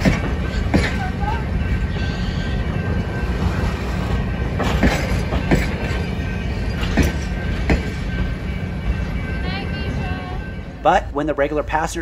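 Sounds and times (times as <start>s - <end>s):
wheels clacking over rail joints: 0.0s - 2.0s, 2.6s - 10.8s
train wheels rumbling on track: 0.0s - 12.0s.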